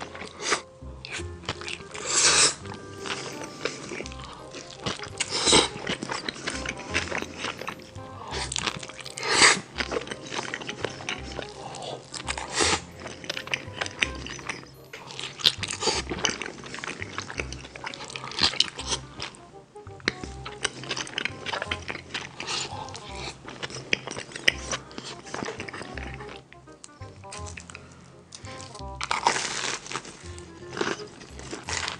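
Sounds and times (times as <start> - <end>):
person crunching and chewing: 0.0 - 19.4, 20.0 - 31.9
background music with low beat: 0.0 - 31.9.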